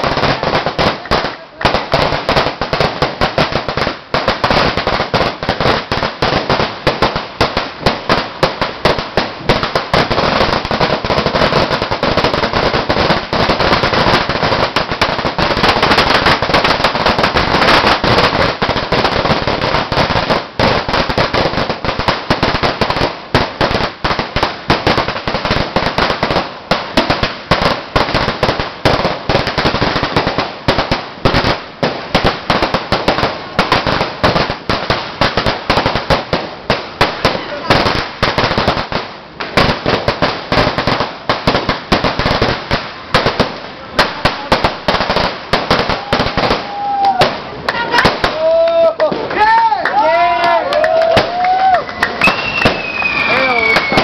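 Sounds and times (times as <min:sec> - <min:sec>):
firecracker string crackling: 0:00.0 - 0:54.0.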